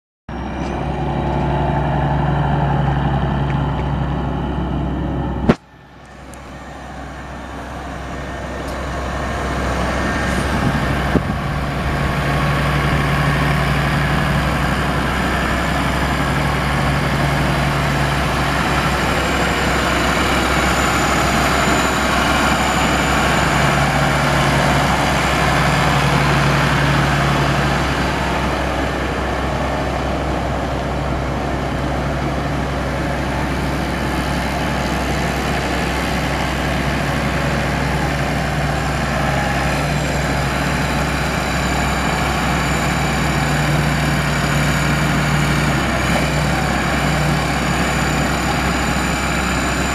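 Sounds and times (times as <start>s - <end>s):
tractor diesel engine running: 0.3s - 49.9s.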